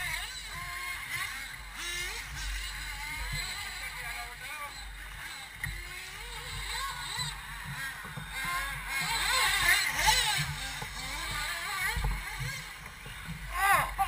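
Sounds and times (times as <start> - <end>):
rc buggy motors revving: 0.0 - 14.0.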